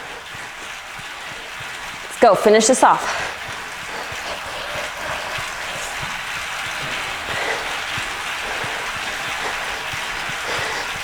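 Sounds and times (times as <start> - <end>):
cycling trainer rushing hiss: 0.0 - 11.0.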